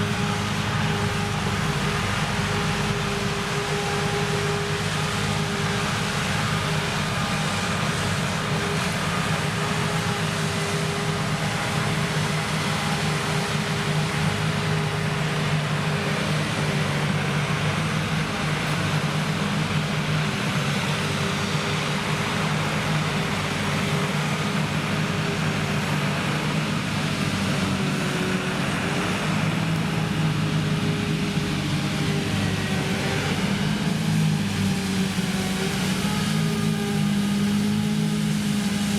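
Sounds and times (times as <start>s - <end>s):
low engine drone: 0.0s - 38.9s.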